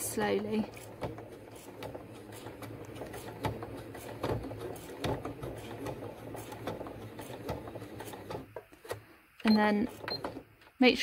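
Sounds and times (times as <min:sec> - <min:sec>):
sewing machine motor hum: 0:00.0 - 0:10.5.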